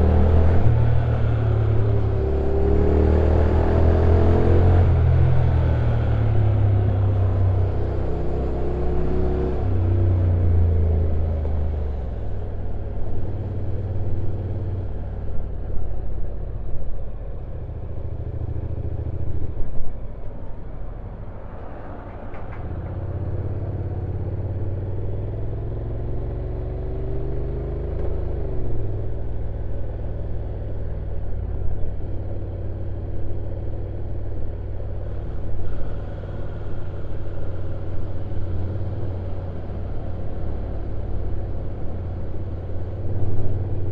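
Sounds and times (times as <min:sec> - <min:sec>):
motorcycle engine running at low revs: 0:00.0 - 0:20.9, 0:22.4 - 0:43.9
road noise: 0:00.0 - 0:43.9.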